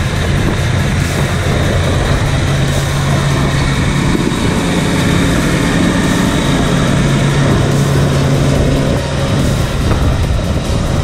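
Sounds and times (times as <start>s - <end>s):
diesel engine of grader driving: 0.0s - 11.0s.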